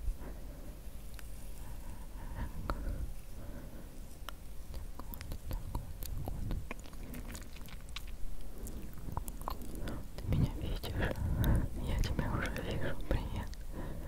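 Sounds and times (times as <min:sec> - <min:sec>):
soft low rumble: 0:00.0 - 0:14.0.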